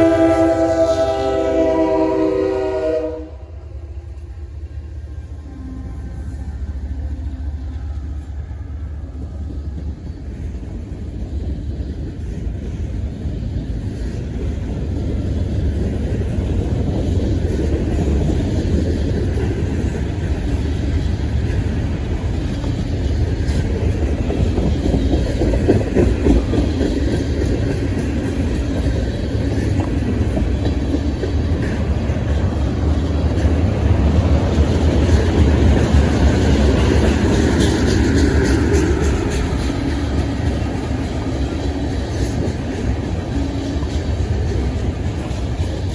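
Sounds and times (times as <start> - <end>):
freight train rumbling on rails: 0.0 - 45.9.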